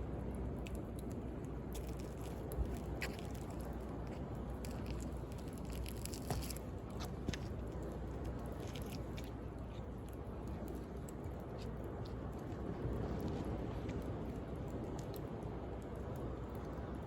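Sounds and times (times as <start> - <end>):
bonfire crackling and popping: 0.3 - 17.0.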